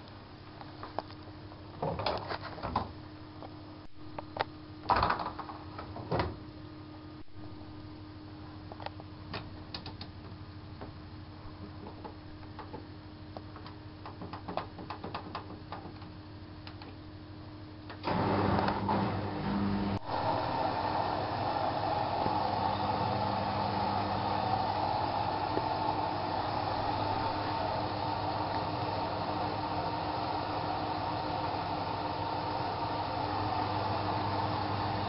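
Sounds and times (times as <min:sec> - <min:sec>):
washing machine hum: 0:04.6 - 0:35.0.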